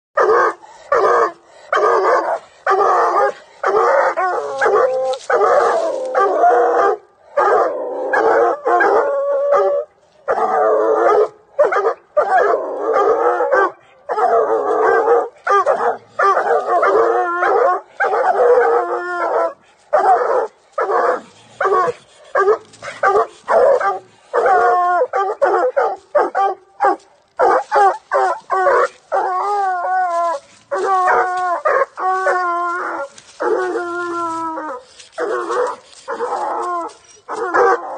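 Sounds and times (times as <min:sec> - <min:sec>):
dog barking and bawling: 0:00.2 - 0:34.4, 0:37.4 - 0:37.9.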